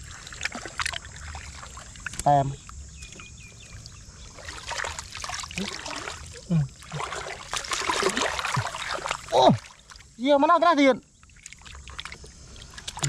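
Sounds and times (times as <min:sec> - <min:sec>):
pond water splashing and sloshing: 0:00.0 - 0:13.0.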